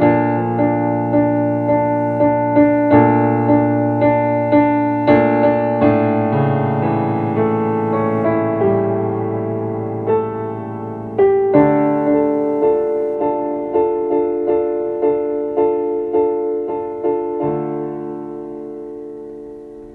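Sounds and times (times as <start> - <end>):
slow gentle piano music: 0.0 - 19.9.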